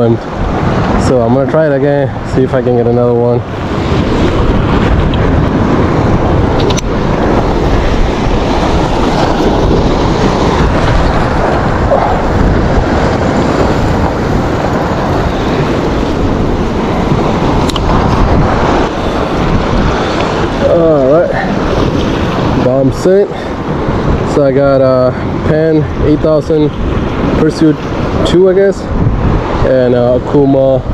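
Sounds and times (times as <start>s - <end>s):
waves washing against rocks: 0.0s - 30.9s
wind buffeting microphone: 0.0s - 30.9s.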